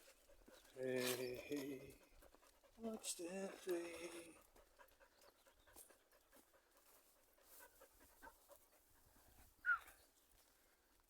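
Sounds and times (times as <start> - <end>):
dogs panting: 0.0 - 0.8, 1.4 - 9.6.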